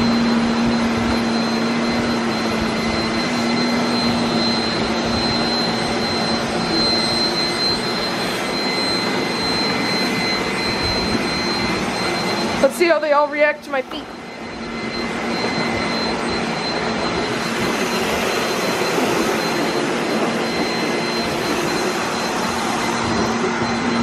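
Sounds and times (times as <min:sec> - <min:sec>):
robot vacuum cleaners whirring: 0:00.0 - 0:24.0.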